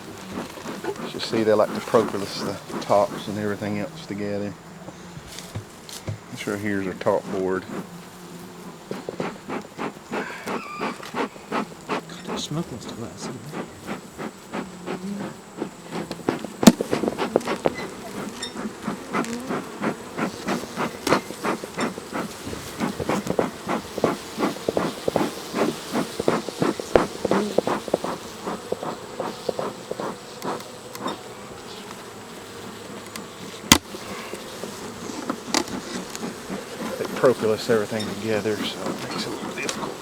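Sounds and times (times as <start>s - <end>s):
hive boxes knocking and clicking: 0.0s - 40.0s
honeybees buzzing: 0.0s - 40.0s.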